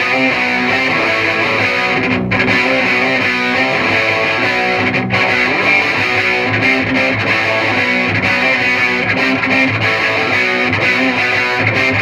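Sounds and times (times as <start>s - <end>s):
electric guitar through tube amp: 0.0s - 12.0s.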